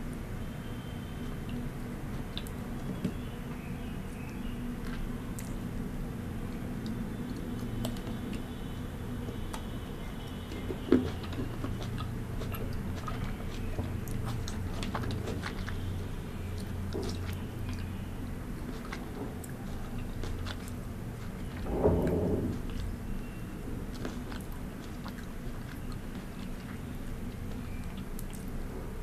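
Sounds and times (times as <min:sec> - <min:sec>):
chewing fruit: 0:00.0 - 0:29.0.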